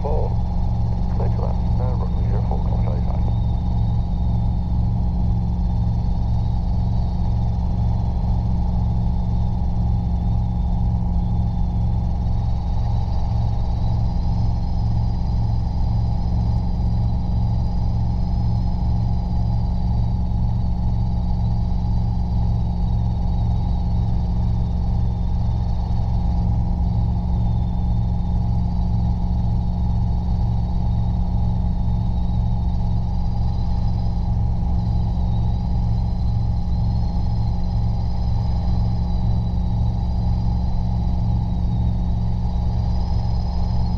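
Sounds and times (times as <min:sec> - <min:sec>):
faint high whine: 0:00.0 - 0:43.9
helicopter engine and rotors drone: 0:00.0 - 0:43.9.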